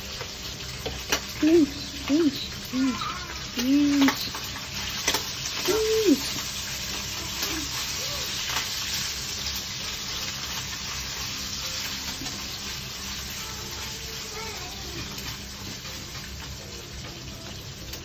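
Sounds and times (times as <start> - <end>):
bacon sizzling in a frying pan: 0.0 - 18.0.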